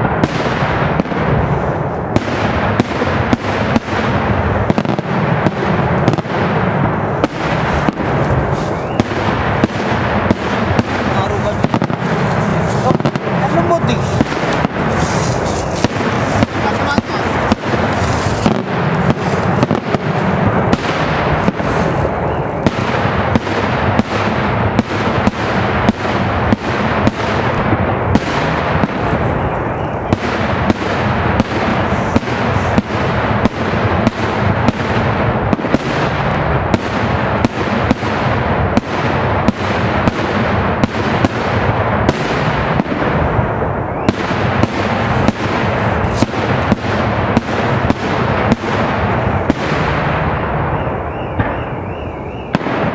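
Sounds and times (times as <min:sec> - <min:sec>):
fireworks rumble and crackle: 0:00.0 - 0:52.9.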